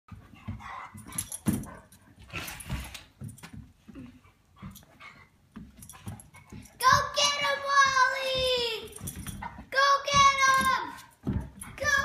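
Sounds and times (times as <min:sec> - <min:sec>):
dogs scuffling: 0:00.1 - 0:12.0.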